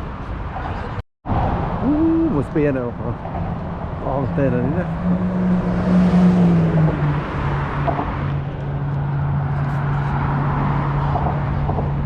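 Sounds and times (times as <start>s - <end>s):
road noise: 0.0s - 12.0s
car engine hum: 1.8s - 12.0s.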